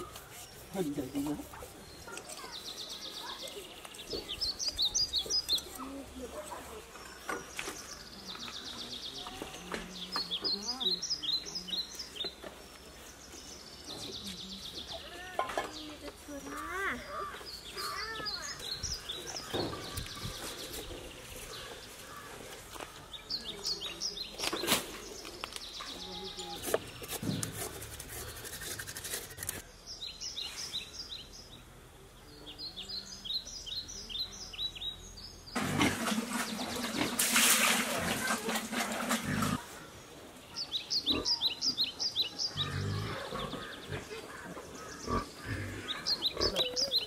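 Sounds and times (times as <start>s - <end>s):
small birds chirping: 0.0s - 35.6s, 36.2s - 47.0s.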